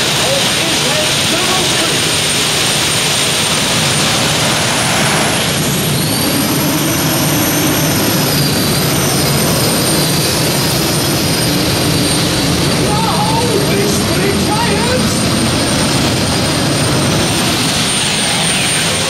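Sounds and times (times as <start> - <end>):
high turbine whine: 0.0 - 19.0
turbine engine roar: 0.0 - 19.0.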